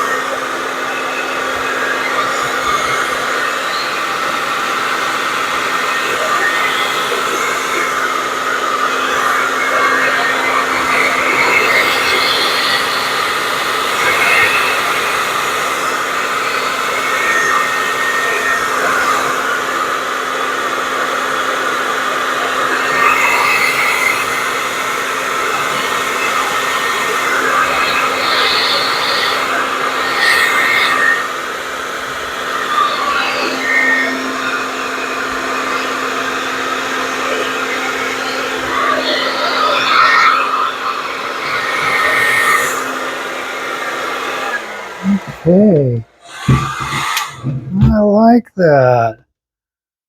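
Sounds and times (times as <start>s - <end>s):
hair dryer blowing: 0.0s - 45.4s, 46.2s - 47.6s.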